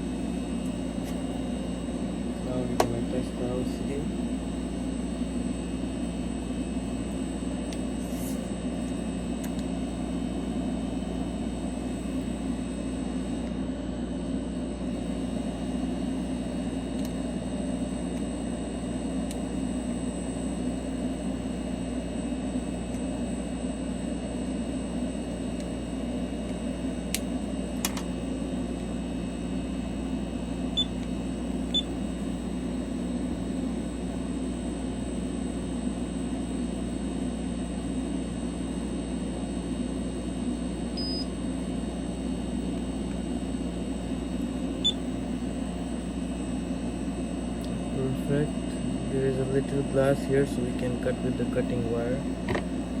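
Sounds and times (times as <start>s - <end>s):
fan motor droning: 0.0s - 53.0s.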